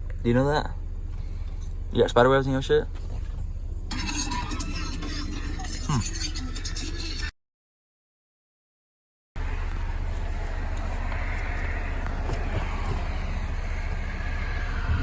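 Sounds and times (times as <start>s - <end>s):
car road and engine rumble: 0.0s - 7.2s, 9.4s - 15.0s.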